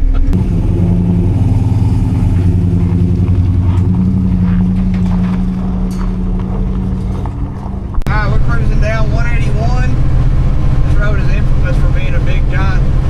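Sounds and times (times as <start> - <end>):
truck engine running under load: 0.0 - 13.0.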